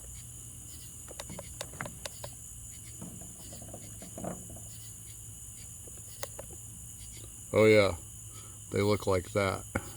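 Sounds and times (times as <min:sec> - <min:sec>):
crickets chirping: 0:00.0 - 0:09.9.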